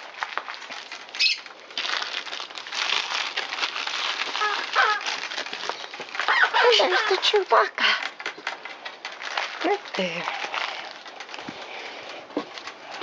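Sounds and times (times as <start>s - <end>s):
wrapping paper crinkling: 0.0s - 13.0s.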